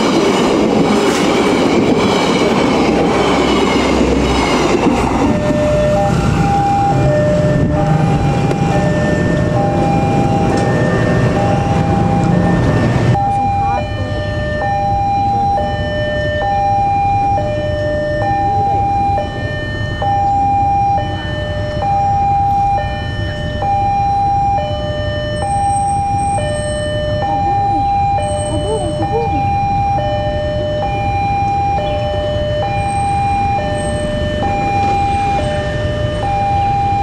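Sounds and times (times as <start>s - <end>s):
train rumble: 0.0s - 37.0s
two-tone crossing alarm: 0.0s - 37.0s.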